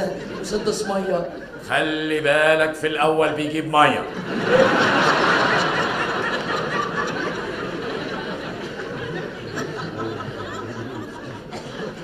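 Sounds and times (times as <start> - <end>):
audience laughing: 0.0 - 2.2, 3.8 - 12.0.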